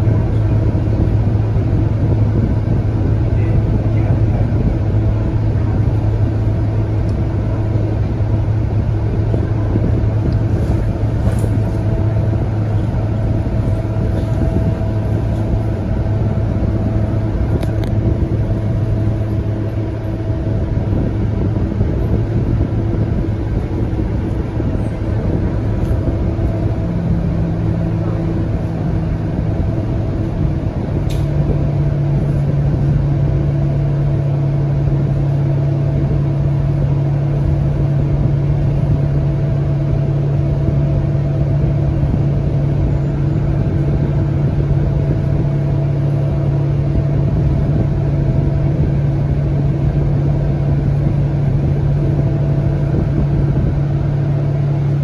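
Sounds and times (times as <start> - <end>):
bus diesel engine idling: 0.0 - 55.0
higher hum: 0.0 - 55.0.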